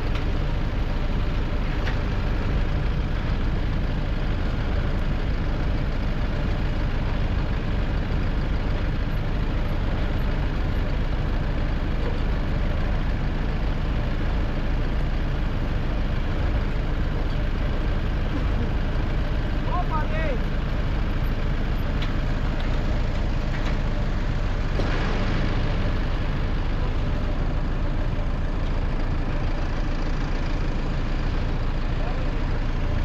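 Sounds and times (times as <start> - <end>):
heavy vehicle engine rumbling: 0.0 - 33.0.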